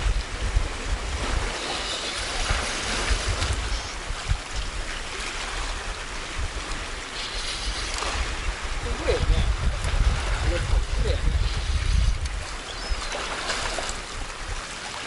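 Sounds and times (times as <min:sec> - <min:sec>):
wind buffeting microphone: 0:00.0 - 0:14.9
waves on rocky shore: 0:00.0 - 0:15.0.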